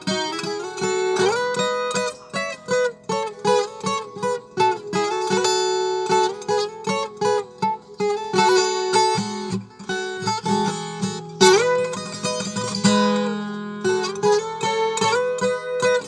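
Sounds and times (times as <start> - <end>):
fingerpicked guitar melody: 0.0 - 16.0.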